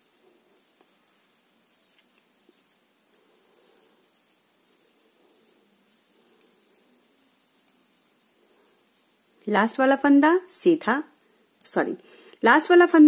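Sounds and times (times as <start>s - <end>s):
knitting needles clicking: 0.0s - 12.4s.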